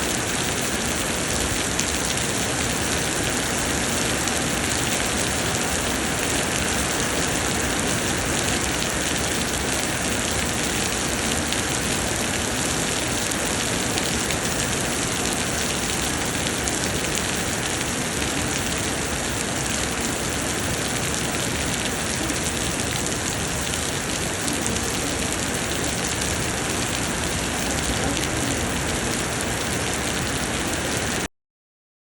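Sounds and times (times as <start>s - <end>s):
heavy rain pouring: 0.0s - 31.3s.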